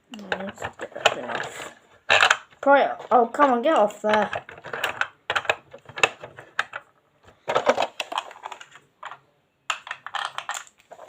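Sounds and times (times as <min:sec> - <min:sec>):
plastic toy parts clicking and rattling: 0:00.1 - 0:11.0.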